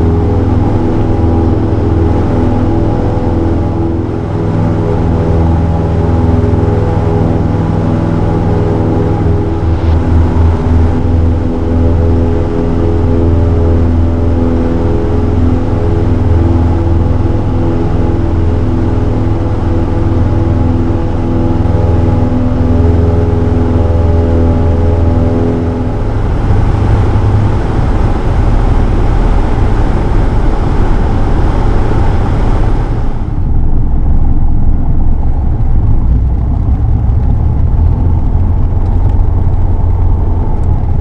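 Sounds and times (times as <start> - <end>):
light aircraft engine drone: 0.0 - 41.0
low hum: 0.0 - 41.0.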